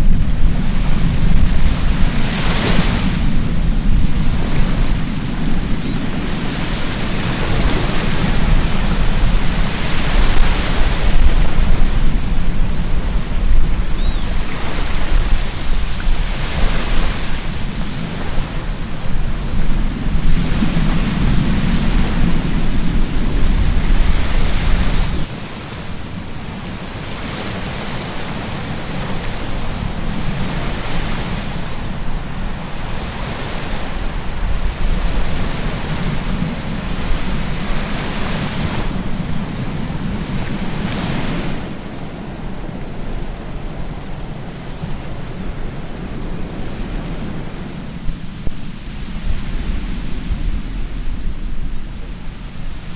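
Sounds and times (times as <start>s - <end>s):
ocean surf breaking on beach: 0.0s - 52.9s
wind buffeting microphone: 0.0s - 52.9s.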